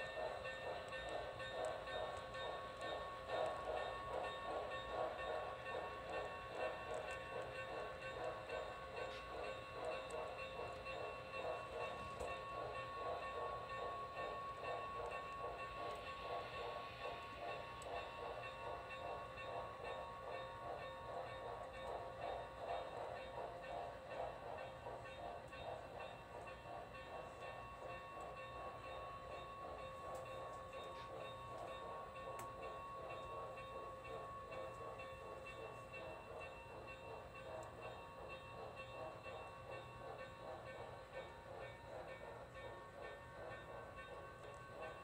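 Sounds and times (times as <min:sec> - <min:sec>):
model train running: 0:00.0 - 0:45.0.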